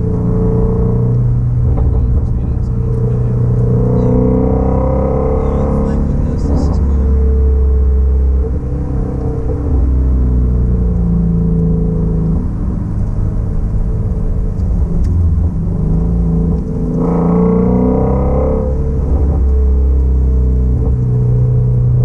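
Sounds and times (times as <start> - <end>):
car engine deep rumble: 0.0 - 22.0.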